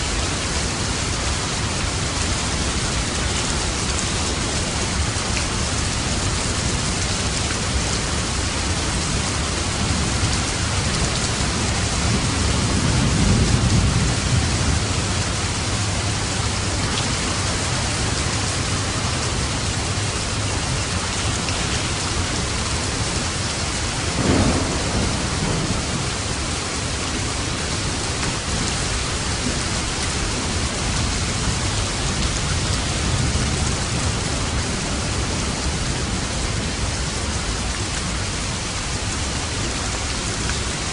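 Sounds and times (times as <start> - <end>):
heavy rain: 0.0 - 40.9
thunder rumbling and cracking: 1.9 - 38.2.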